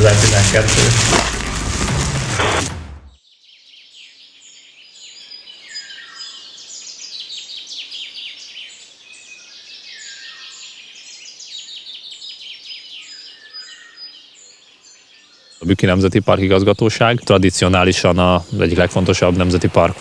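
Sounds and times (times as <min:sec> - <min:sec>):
songbirds singing: 0:03.2 - 0:19.9.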